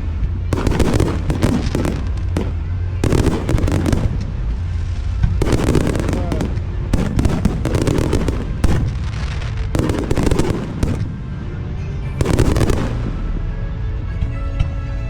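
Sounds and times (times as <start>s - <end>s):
fireworks bangs and crackling: 0.0s - 13.6s
music playing: 0.0s - 15.0s.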